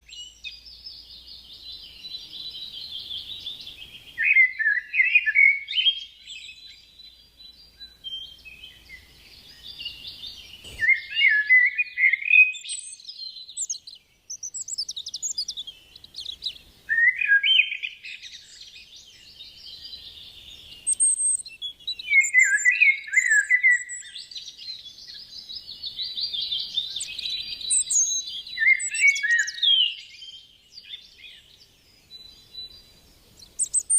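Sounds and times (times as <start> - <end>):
songbird singing trills: 0.0 - 33.9.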